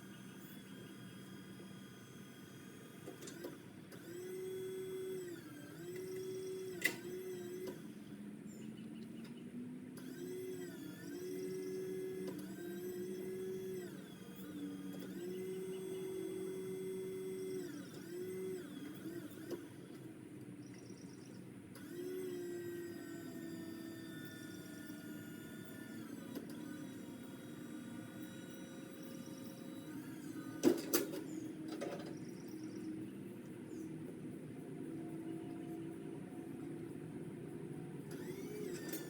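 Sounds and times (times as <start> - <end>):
electric limb cutter motor whining: 0.0 - 8.7, 10.0 - 20.1, 21.7 - 33.9, 38.0 - 39.0.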